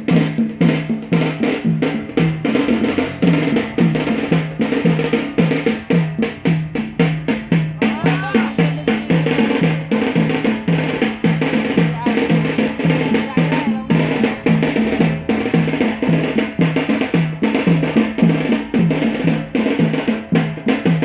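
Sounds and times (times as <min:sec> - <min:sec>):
drums beating a fast rhythm: 0:00.0 - 0:21.0.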